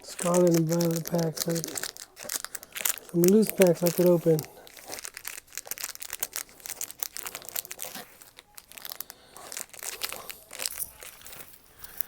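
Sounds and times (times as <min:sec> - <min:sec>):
foil packs crinkling: 0:00.0 - 0:12.0.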